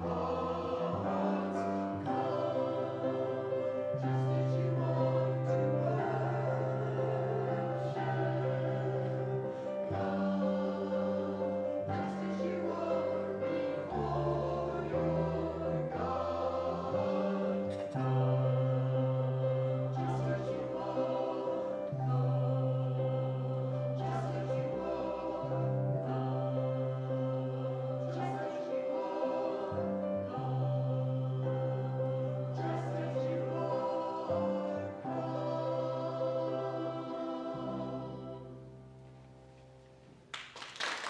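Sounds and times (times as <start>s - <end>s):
choir singing a hymn: 0.0s - 39.3s.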